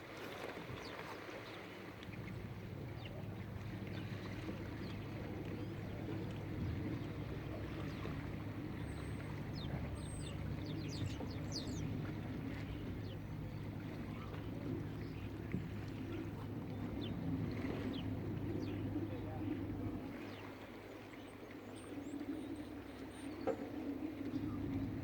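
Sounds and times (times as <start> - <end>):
water and boats rumbling: 0.0 - 25.0.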